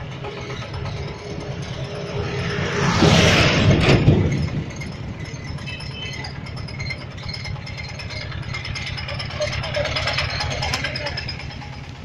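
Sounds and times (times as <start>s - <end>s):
light metallic rattling: 0.0s - 12.0s
truck passing: 0.0s - 12.0s
vehicle engine running: 0.0s - 12.0s.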